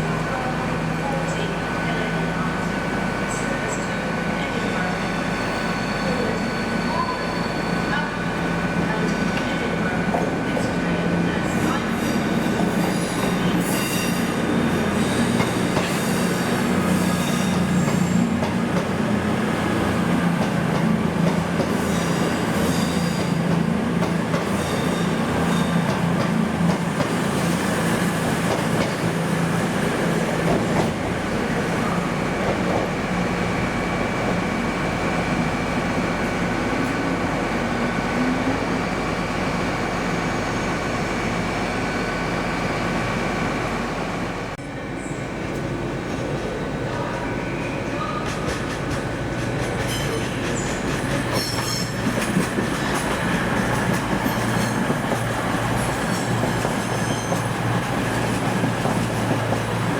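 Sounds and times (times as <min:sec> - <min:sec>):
train moving: 0:00.0 - 0:59.9
wheels squealing on rails: 0:04.6 - 0:18.6, 0:19.5 - 0:42.4, 0:46.9 - 0:59.9.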